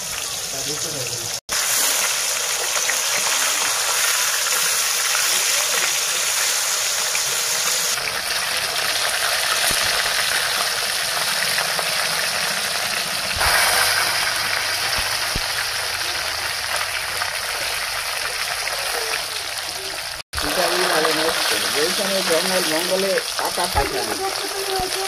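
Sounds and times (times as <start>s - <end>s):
fish sizzling in oil: 0.0s - 25.0s.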